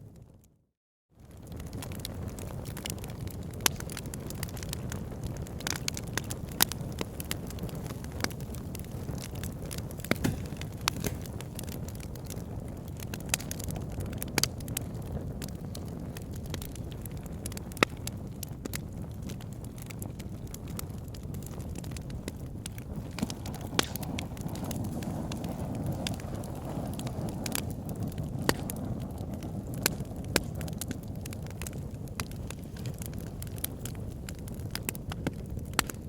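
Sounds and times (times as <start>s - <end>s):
fire crackling and popping: 1.2s - 36.0s.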